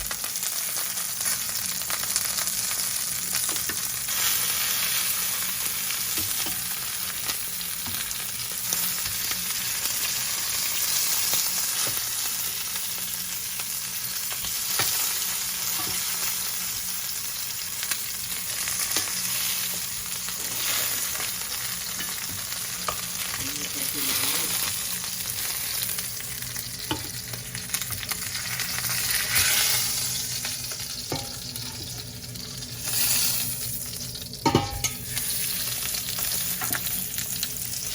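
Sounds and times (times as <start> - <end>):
meat sizzling in a pan: 0.0 - 37.9.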